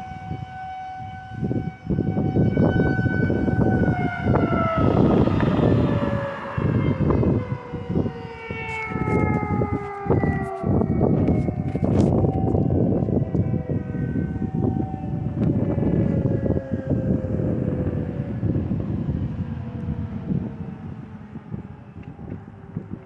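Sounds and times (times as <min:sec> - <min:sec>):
higher siren tone: 0:00.0 - 0:23.0
warning siren wailing: 0:00.0 - 0:23.0.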